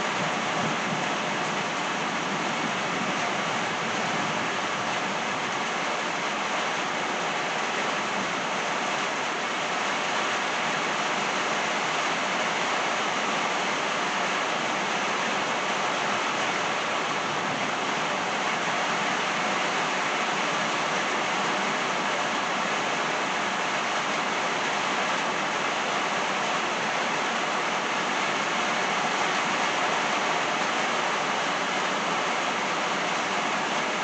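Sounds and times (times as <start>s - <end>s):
rain falling on trees and driveway: 0.0s - 34.0s.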